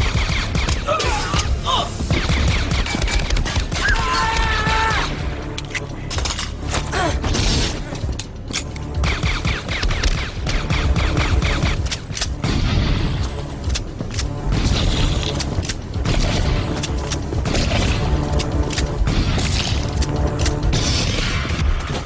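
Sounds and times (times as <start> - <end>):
dramatic film score: 0.0 - 22.0.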